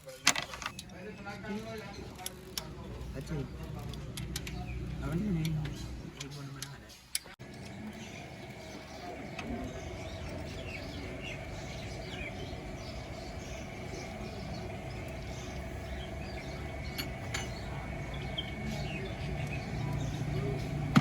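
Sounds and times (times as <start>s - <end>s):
small birds chirping: 0.1s - 21.0s
faint constant hum: 0.2s - 21.0s.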